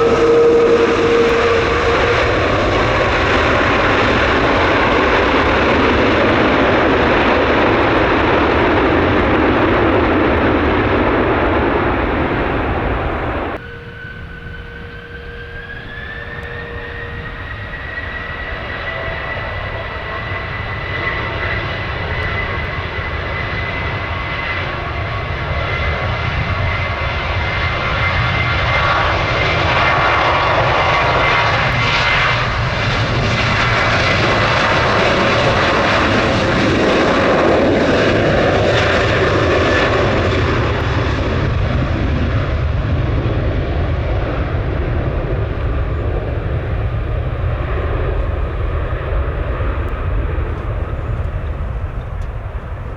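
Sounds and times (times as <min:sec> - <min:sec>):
jet airliner flying past: 0:00.0 - 0:52.9
wind rumble on microphone: 0:00.0 - 0:52.9.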